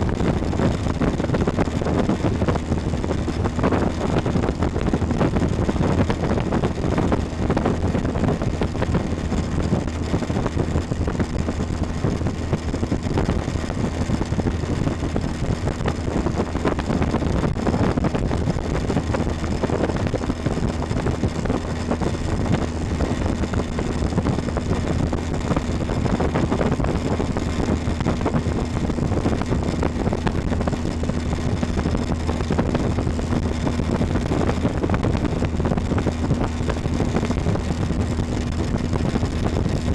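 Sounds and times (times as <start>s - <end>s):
motorboat engine humming: 0.0s - 39.9s
wind buffeting microphone: 0.0s - 39.9s.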